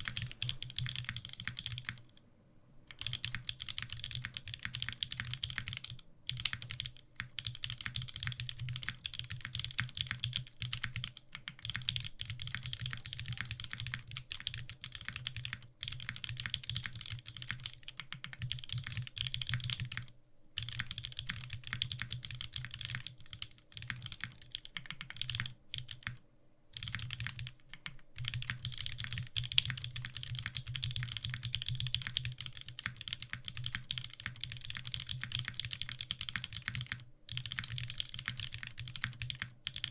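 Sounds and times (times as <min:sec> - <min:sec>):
fast mechanical keyboard typing: 0:00.0 - 0:02.2, 0:02.9 - 0:26.2, 0:26.8 - 0:39.9.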